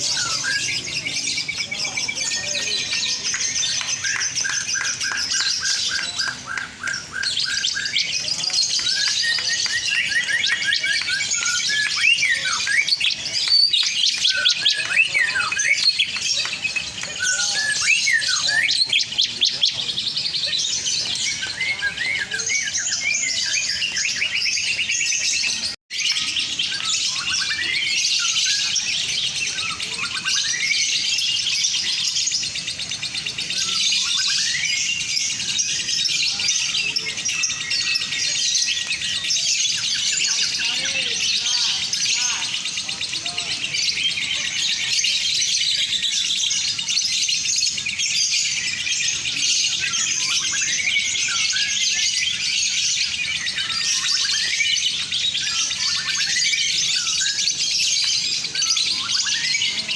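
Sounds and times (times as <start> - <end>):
lovebirds chattering and trilling: 0.0 - 59.9.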